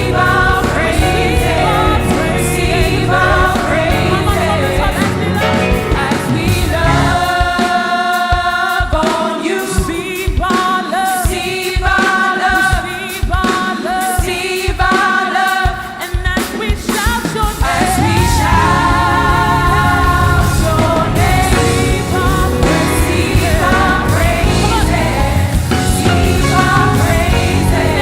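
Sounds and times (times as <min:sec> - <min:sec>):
choir singing held notes: 0:00.0 - 0:16.2, 0:17.2 - 0:28.0
live band with drums: 0:00.0 - 0:28.0.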